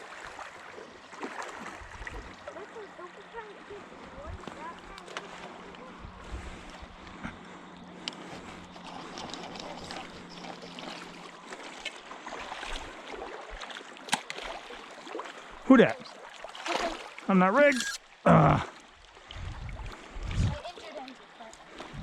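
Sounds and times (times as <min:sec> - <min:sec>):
creek water sloshing: 0:00.0 - 0:22.0.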